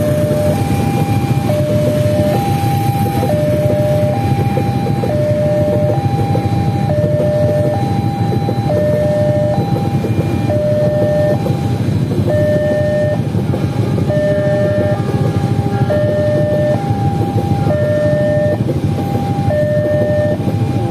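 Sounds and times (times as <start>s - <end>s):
freight train rumbling past: 0.0s - 20.9s
level crossing alarm two-tone: 0.0s - 20.9s.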